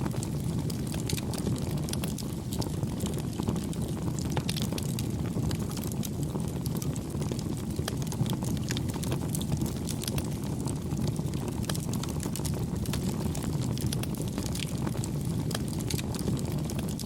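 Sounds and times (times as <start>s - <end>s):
campfire crackling: 0.0s - 17.0s
low rumble of burning: 0.0s - 17.0s.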